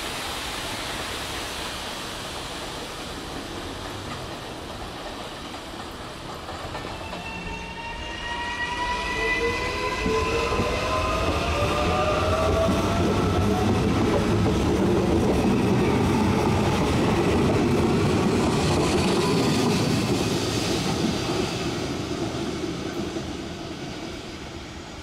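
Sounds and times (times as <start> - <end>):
metro train passing on rails: 0.0 - 25.0.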